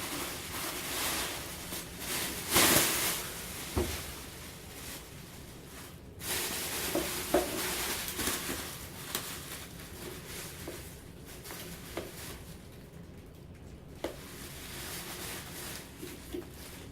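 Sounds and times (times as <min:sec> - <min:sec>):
packaging rustling: 0:00.0 - 0:12.7, 0:14.1 - 0:16.9.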